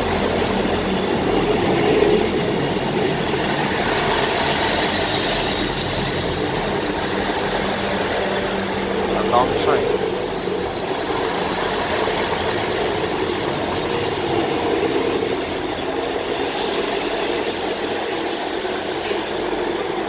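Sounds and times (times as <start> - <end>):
train diesel engines running: 0.0 - 20.0.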